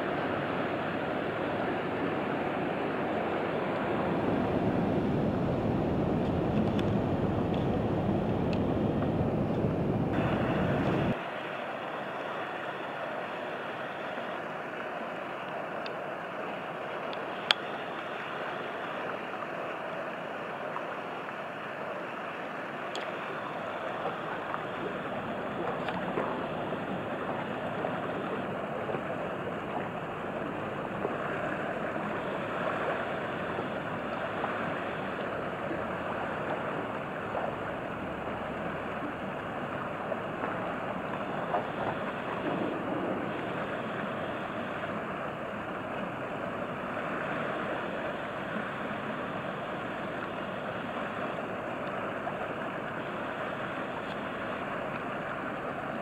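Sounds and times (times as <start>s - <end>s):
river water and small waves: 0.0s - 56.0s.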